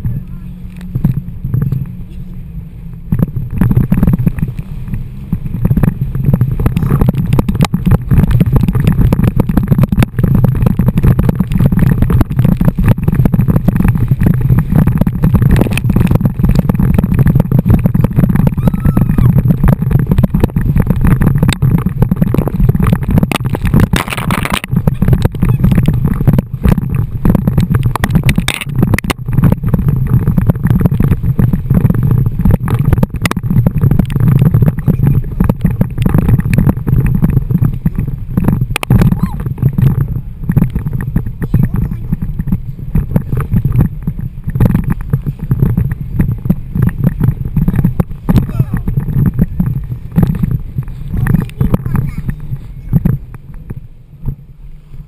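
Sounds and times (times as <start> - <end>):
rushing water slapping: 0.0 - 55.0
wind buffeting microphone: 0.0 - 55.0.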